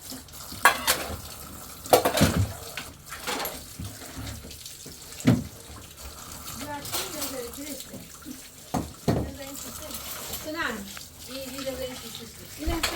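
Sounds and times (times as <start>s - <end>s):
water running and splashing: 0.0s - 12.9s.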